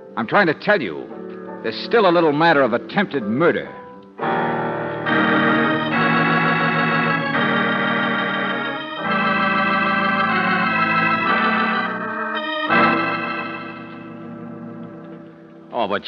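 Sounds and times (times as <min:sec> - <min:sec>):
sustained organ chords: 0:00.0 - 0:16.0.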